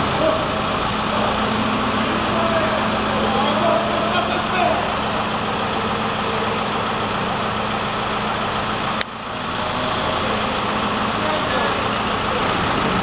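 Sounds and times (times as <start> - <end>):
crane engine humming: 0.0 - 13.0.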